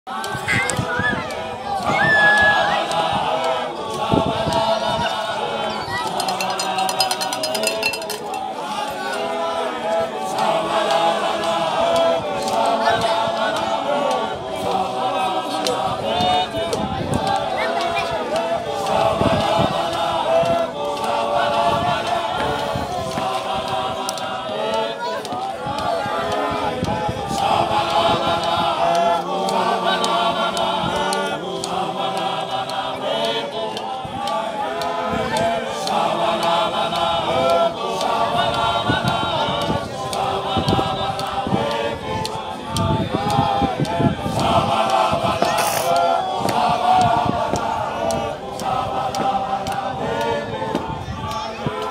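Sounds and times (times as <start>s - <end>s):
men singing a chant in harmony: 0.1s - 51.9s.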